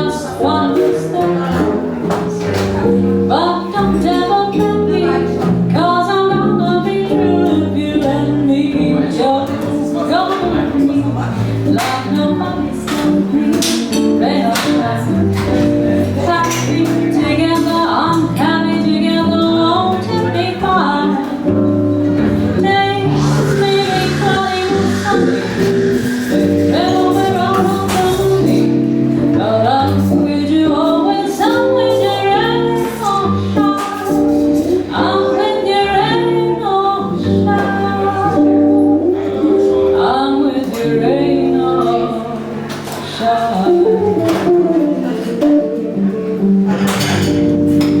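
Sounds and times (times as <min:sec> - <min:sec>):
jazz guitar chords: 0:00.0 - 0:48.0
walking double bass: 0:00.0 - 0:48.0
woman singing jazz: 0:00.0 - 0:48.0.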